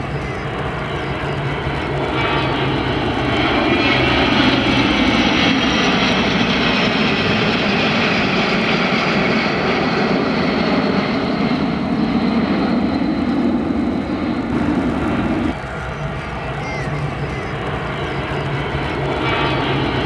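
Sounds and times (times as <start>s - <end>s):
aircraft engine running: 0.0s - 20.0s.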